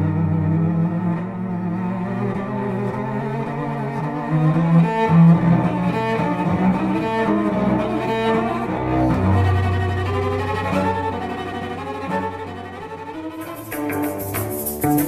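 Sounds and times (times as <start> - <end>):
bowed cello playing: 0.0 - 15.0.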